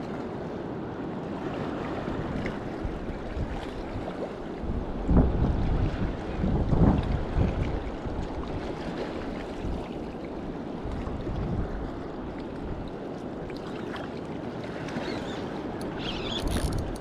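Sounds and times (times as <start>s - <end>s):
wind on microphone: 1.2s - 13.9s, 14.6s - 17.0s.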